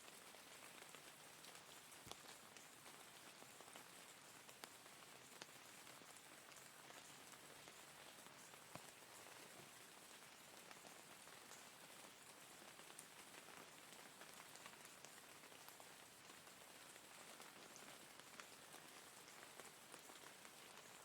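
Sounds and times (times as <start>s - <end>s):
faint rain hiss: 0.0s - 21.0s
raindrops ticking on surface: 0.0s - 21.0s.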